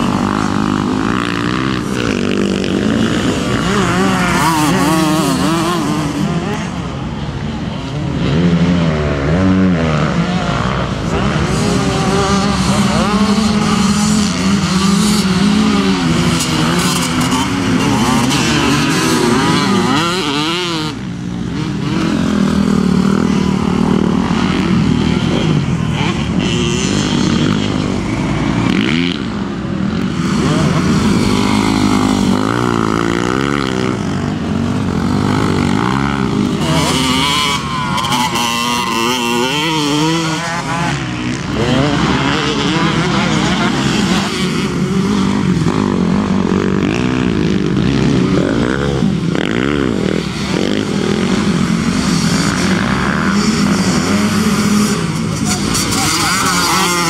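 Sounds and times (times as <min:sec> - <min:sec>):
motocross bikes revving past: 0:00.0 - 0:57.0.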